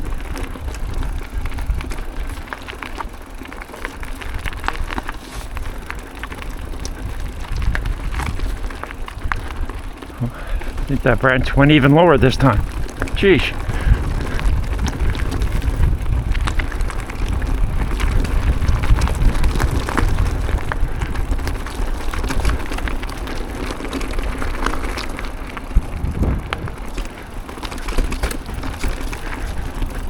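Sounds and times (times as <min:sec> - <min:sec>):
bike clicks and rattles: 0:00.0 - 0:30.0
tyres rumbling on dirt: 0:00.0 - 0:30.0
wind buffeting microphone: 0:00.0 - 0:30.0.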